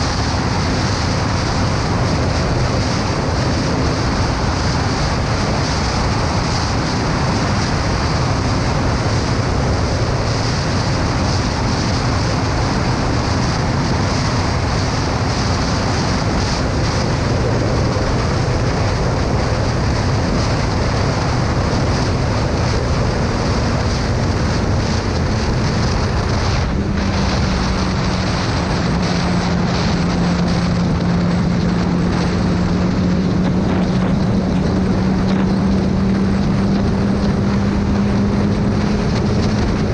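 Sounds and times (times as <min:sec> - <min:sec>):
motorcycle engine hum: 0:00.0 - 0:39.9
wind noise on microphone: 0:00.0 - 0:39.9.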